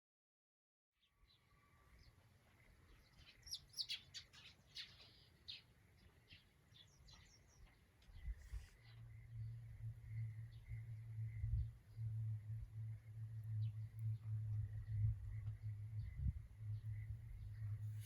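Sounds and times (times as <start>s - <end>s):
small birds chirping: 1.0s - 18.0s.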